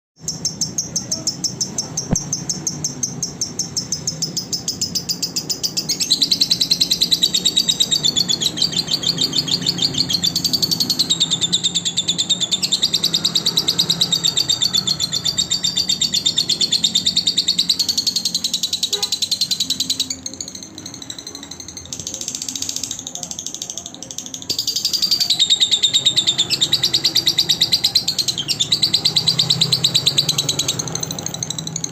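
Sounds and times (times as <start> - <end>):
lovebird chattering: 0.2 - 31.9.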